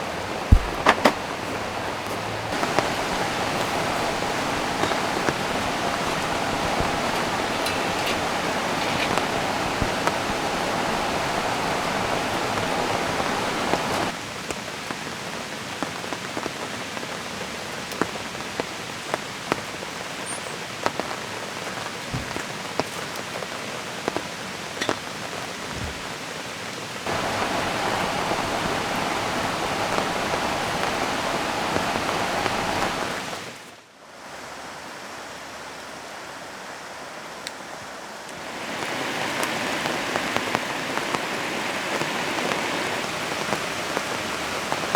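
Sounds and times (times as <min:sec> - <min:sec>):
river flowing: 0:00.0 - 0:14.4, 0:21.1 - 0:44.9
rain falling: 0:00.0 - 0:44.9.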